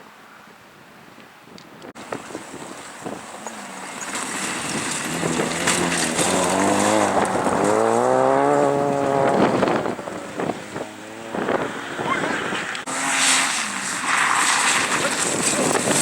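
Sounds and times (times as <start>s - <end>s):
rally car engine revving: 2.1s - 16.0s.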